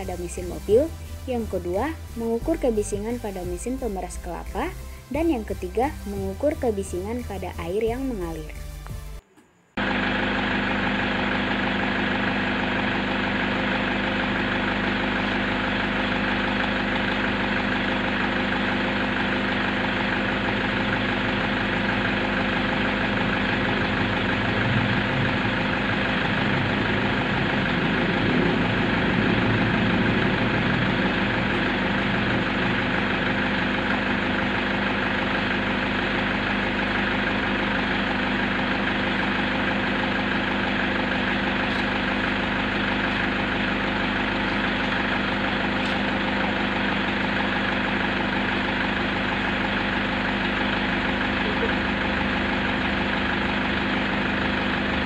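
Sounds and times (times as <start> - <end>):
car engine idling: 9.8 - 55.0.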